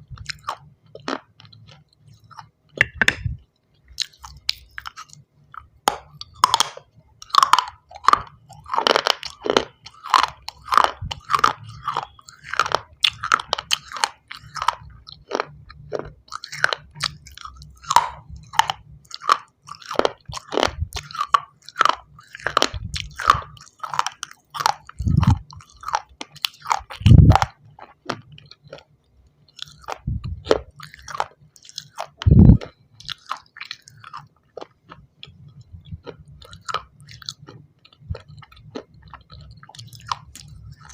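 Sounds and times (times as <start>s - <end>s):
chewing crunches: 0.0s - 40.9s.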